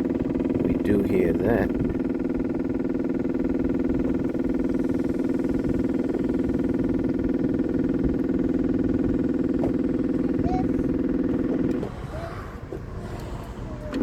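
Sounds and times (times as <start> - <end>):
electric fuel pump humming: 0.0 - 14.0.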